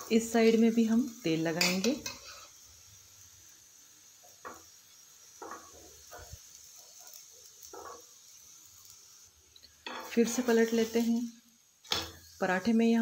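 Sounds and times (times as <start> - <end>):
spoon scraping hot griddle: 0.0 - 2.7, 4.2 - 12.8
oil hissing on griddle: 0.0 - 13.0.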